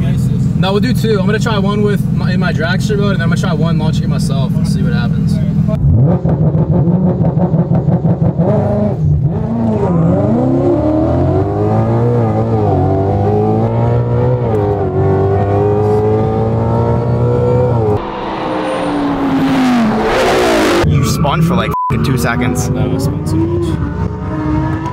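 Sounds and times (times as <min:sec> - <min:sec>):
sports car engine accelerating hard: 0:00.2 - 0:20.9, 0:22.4 - 0:24.9.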